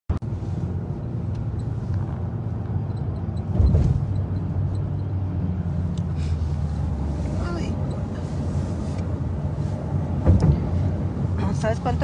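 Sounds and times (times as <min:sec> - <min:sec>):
car engine rumble: 0:00.1 - 0:12.0
road noise inside car: 0:00.1 - 0:12.0.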